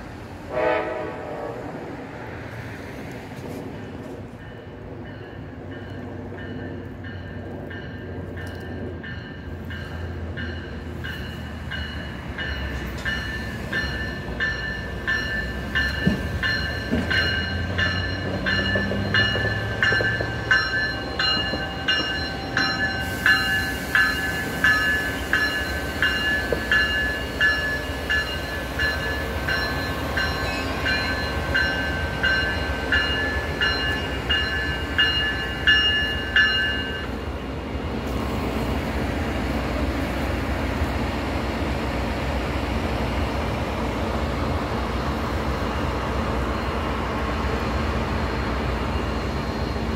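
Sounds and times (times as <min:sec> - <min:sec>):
train rumble: 0:00.0 - 0:49.9.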